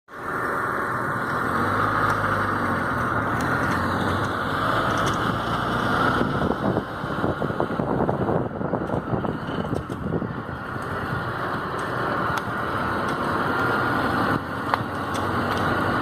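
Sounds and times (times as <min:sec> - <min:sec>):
car engine and tyre noise: 0:00.1 - 0:16.0.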